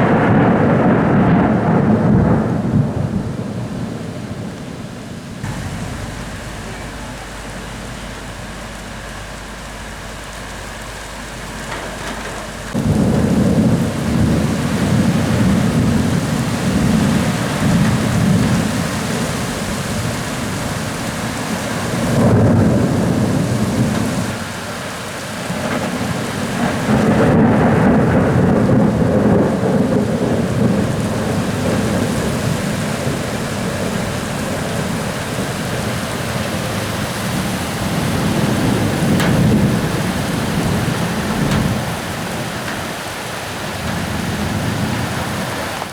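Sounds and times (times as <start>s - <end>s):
heavy rain hiss: 0.0s - 45.9s
thunder rumbling: 0.0s - 45.9s.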